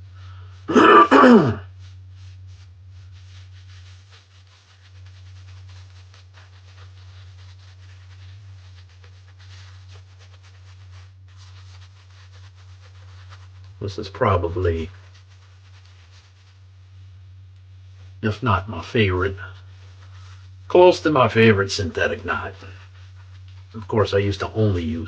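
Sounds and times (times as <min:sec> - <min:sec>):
low steady hum: 0:00.0 - 0:25.0
shaving brush scratching lather: 0:00.7 - 0:25.0.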